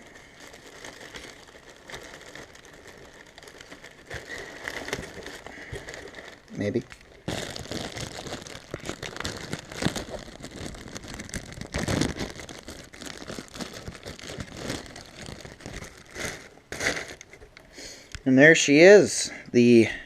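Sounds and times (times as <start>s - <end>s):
plastic wrapper crinkling: 0.0s - 18.3s.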